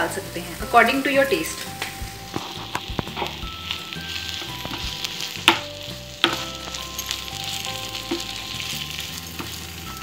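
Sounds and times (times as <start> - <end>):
gravy sizzling in a pan: 0.0 - 10.0.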